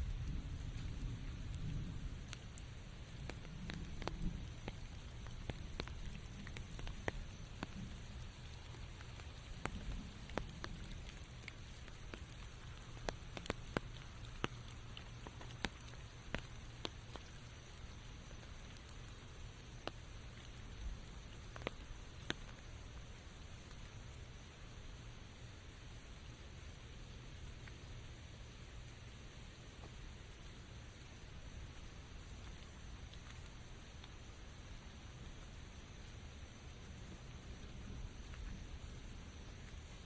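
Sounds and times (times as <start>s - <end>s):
rain falling in a forest: 0.0s - 40.0s.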